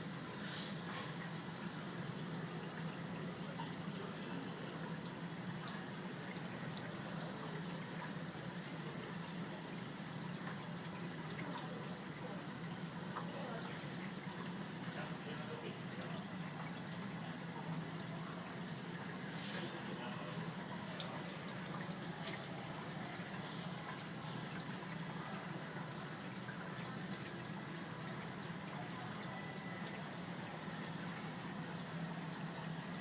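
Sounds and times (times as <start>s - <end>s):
faint water drips: 0.0s - 33.0s
water trickling: 0.0s - 33.0s.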